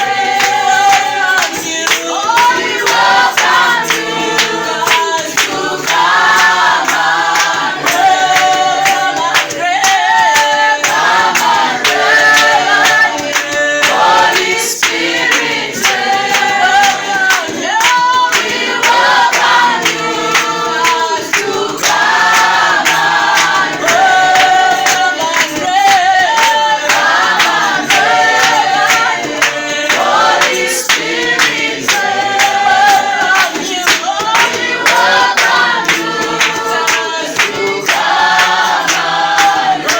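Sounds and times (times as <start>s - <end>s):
choir singing: 0.0s - 39.9s
clapped beat: 0.0s - 39.9s.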